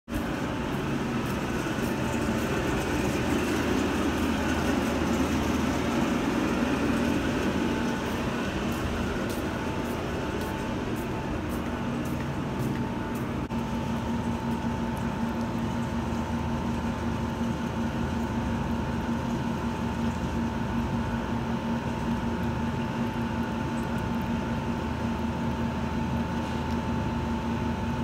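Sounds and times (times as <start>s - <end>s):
machine hum with held tones: 0.1s - 28.0s
noisy background: 0.1s - 28.0s.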